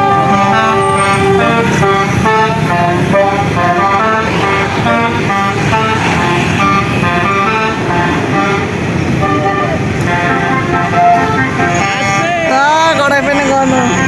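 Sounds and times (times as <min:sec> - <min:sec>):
musical bus horn playing tune: 0:00.0 - 0:14.0.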